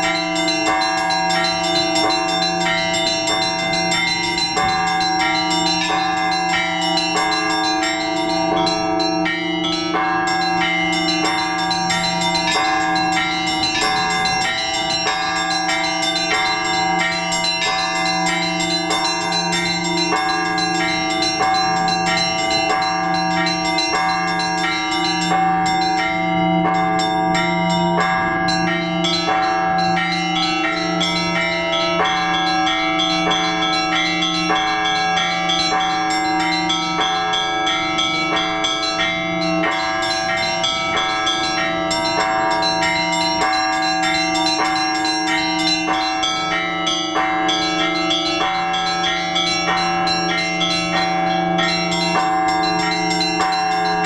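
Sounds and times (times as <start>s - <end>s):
hum of large bells: 0.0s - 54.0s
small church bells striking: 0.0s - 54.0s.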